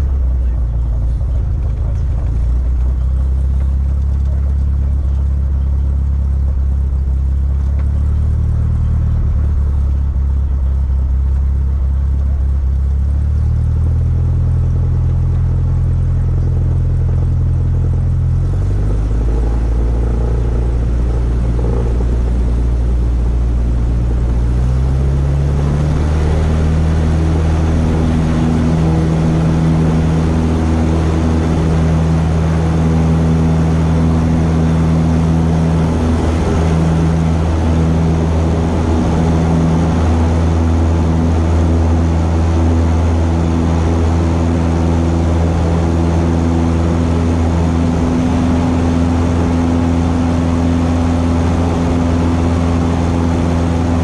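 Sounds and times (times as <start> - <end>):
propeller plane engine: 0.0 - 54.0.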